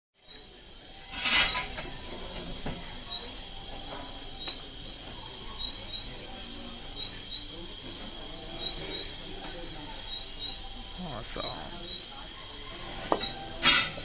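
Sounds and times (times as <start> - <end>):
crickets chirping: 0.2 - 14.0.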